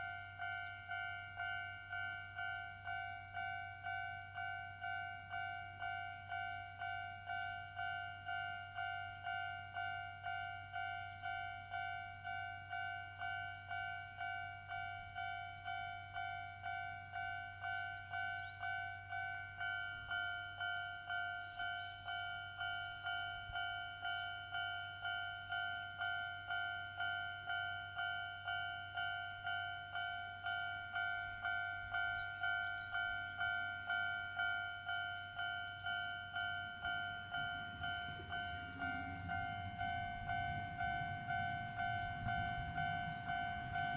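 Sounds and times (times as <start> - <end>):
low rumble of approaching train: 0.0 - 43.9.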